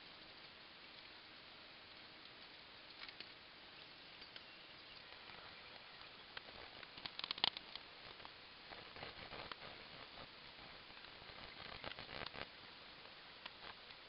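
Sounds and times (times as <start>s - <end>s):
small clicks and crackles: 0.0s - 14.0s.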